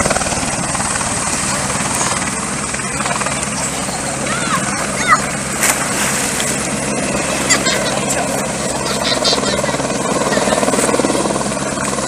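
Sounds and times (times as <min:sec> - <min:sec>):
helicopter rotor beating: 0:00.0 - 0:12.0.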